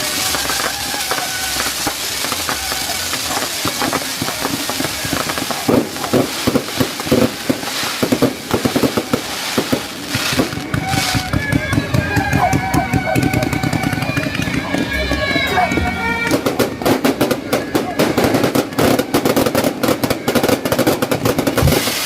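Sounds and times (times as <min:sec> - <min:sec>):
fireworks hissing spray: 0:00.0 - 0:14.4, 0:16.2 - 0:22.0
fireworks crackling bangs: 0:00.0 - 0:22.0.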